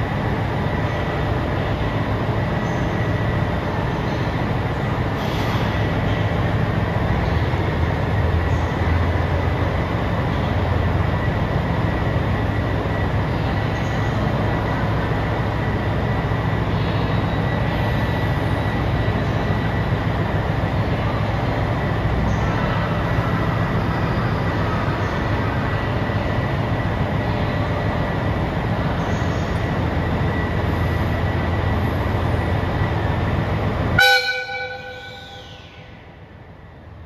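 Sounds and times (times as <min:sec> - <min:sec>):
diesel train rumbling: 0:00.0 - 0:37.0.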